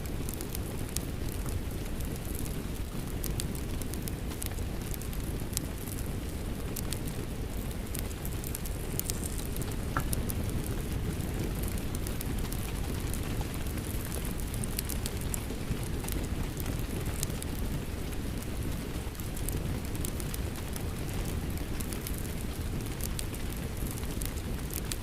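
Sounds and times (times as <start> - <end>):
rain: 0.0 - 25.0
wood fire crackling: 0.0 - 25.0.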